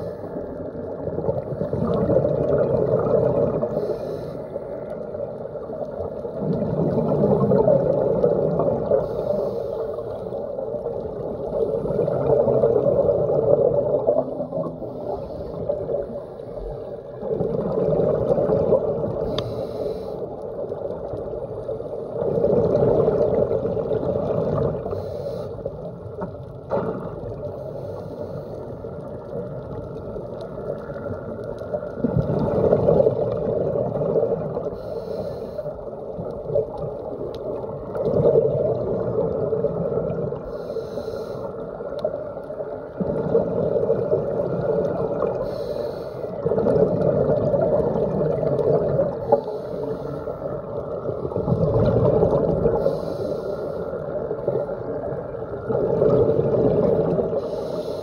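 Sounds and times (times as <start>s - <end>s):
faint regulator hiss: 0.0s - 2.3s, 3.5s - 17.8s, 18.9s - 22.3s, 23.2s - 38.1s, 38.8s - 51.5s, 52.4s - 58.0s
bubbling exhaled air underwater: 0.0s - 58.0s.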